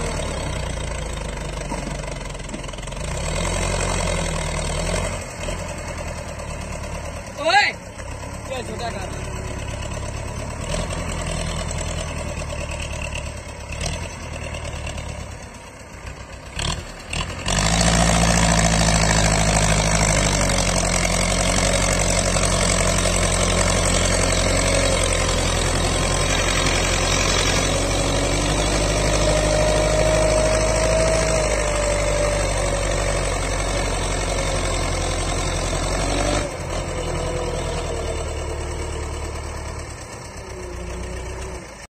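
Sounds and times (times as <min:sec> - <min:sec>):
tractor diesel engine labouring: 0:00.0 - 0:41.9.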